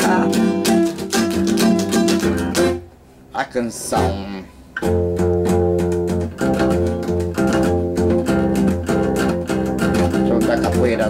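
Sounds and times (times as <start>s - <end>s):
acoustic guitar strumming: 0.0s - 3.0s, 3.8s - 11.0s.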